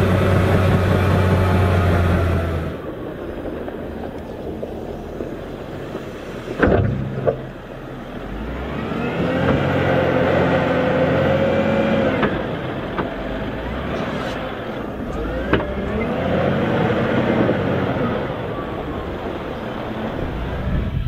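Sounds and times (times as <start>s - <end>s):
diesel engine whining under load: 0.0s - 21.0s.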